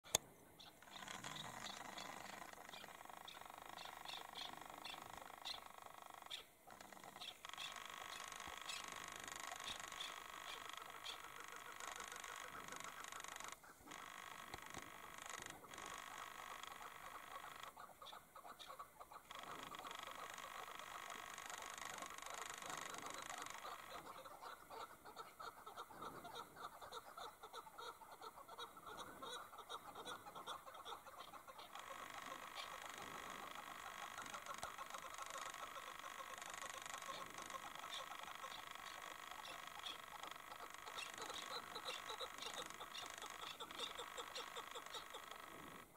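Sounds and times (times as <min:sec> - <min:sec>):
partridges chirping: 0:00.1 - 0:45.8.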